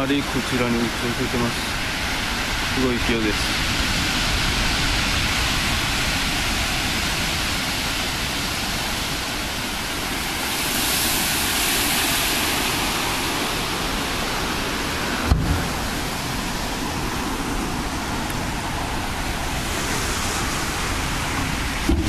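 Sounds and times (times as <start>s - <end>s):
waves breaking and rushing: 0.0s - 22.0s.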